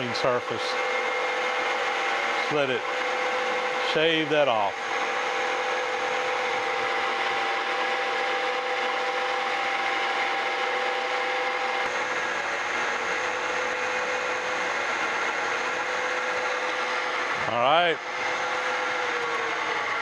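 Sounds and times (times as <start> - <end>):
milling machine cutting metal: 0.0 - 20.0
spindle whine: 0.0 - 20.0.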